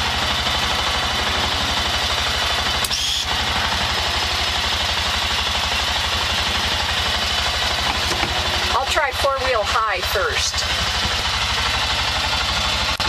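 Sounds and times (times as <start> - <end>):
engine thudding steadily: 0.0 - 13.0.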